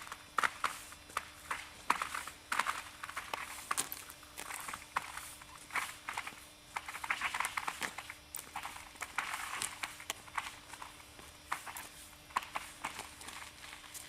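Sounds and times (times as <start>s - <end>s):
footsteps crunching on ice and snow: 0.0s - 14.0s.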